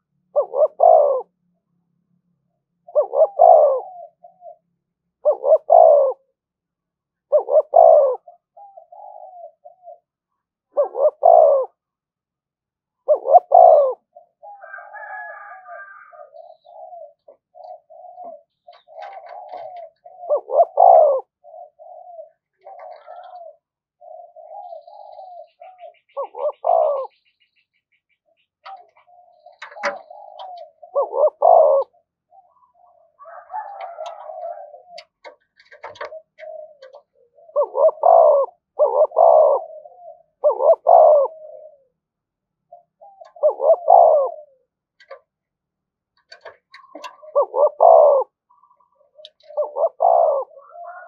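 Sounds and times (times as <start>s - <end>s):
dove cooing: 0.0s - 1.4s, 2.8s - 6.4s, 7.2s - 11.8s, 13.0s - 45.3s, 46.2s - 51.0s.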